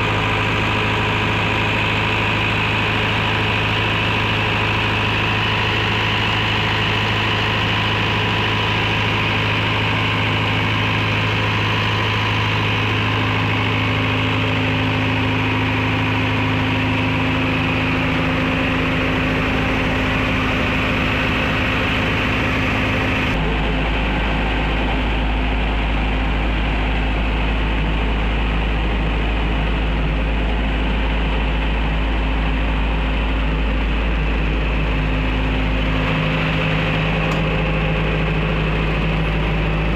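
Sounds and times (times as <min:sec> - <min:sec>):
diesel generator humming: 0:00.0 - 0:39.9.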